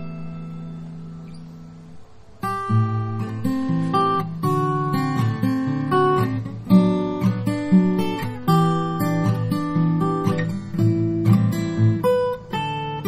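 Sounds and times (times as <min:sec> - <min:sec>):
fingerpicked acoustic guitar: 0:00.0 - 0:13.0.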